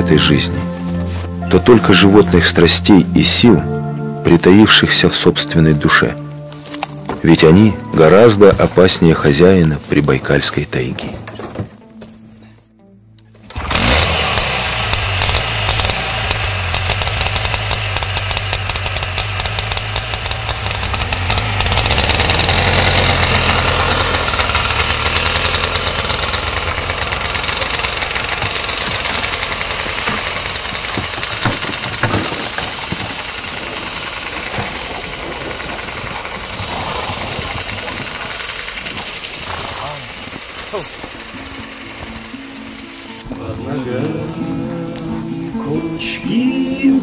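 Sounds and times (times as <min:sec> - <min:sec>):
snowmobile engine running: 0:00.0 - 0:10.0, 0:13.5 - 0:47.0.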